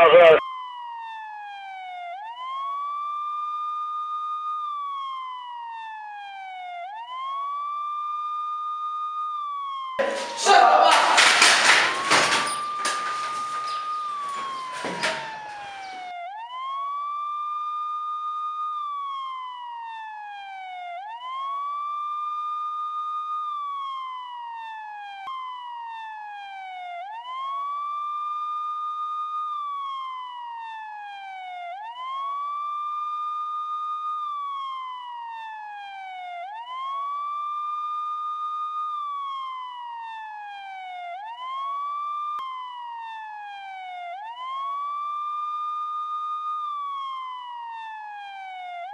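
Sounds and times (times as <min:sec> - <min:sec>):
police siren wailing: 0:00.0 - 0:48.9.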